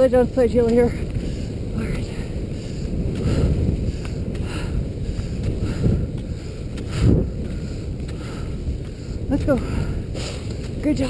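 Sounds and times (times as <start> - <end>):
wind rumbling on microphone: 0.0 - 11.0
skis gliding on snow: 0.3 - 11.0.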